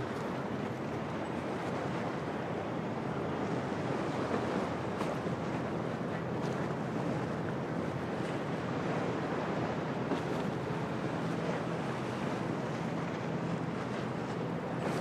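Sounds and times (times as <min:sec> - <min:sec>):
steady wind: 0:00.0 - 0:15.0
surf and waves washing in: 0:00.0 - 0:15.0.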